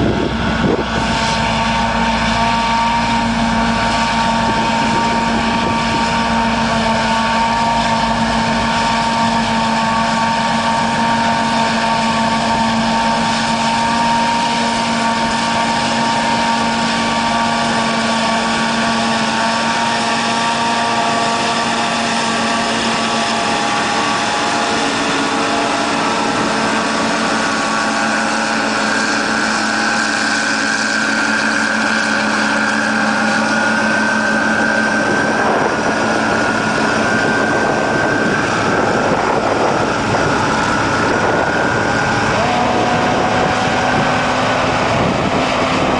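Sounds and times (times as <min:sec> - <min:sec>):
forage harvester droning: 0:00.0 - 0:45.9.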